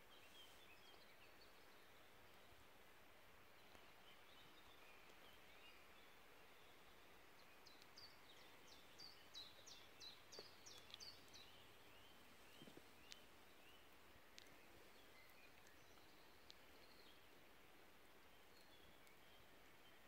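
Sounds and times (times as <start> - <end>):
faint songbird song: 0.0 - 20.0
quiet woodland background: 0.0 - 20.0.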